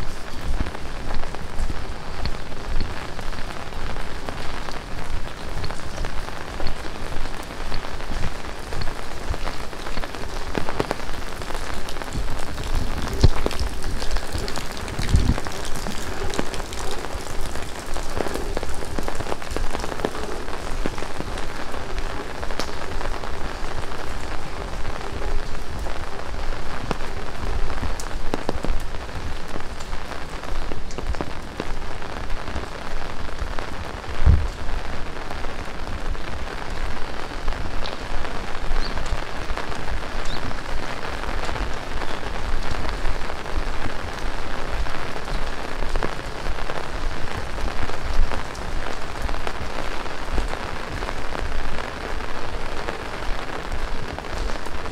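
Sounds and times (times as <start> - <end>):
heavy rain pouring: 0.0 - 54.9
raindrops striking surfaces: 0.0 - 54.9.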